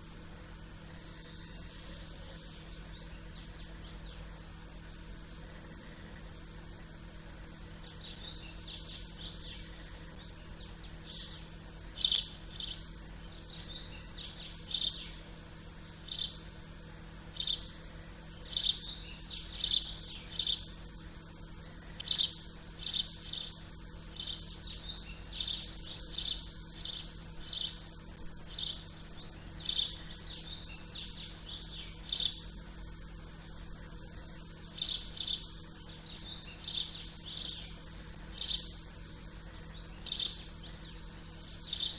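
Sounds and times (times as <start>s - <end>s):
faint low hum: 0.0s - 41.9s
songbirds chirping: 0.0s - 41.9s.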